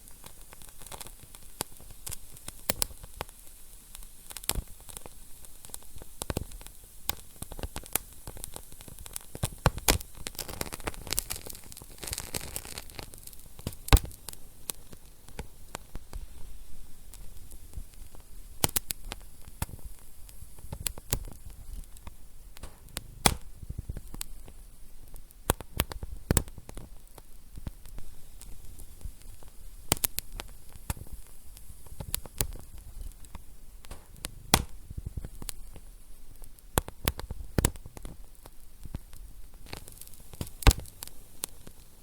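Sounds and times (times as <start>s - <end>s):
soft steady hiss: 0.0s - 42.0s
wood fire crackling and popping: 0.0s - 42.0s.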